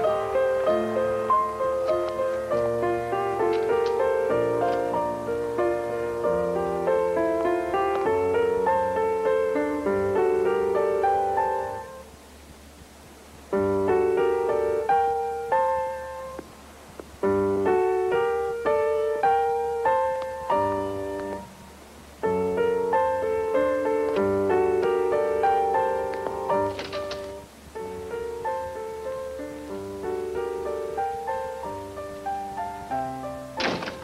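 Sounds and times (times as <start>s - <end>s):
piano melody: 0.0s - 34.0s.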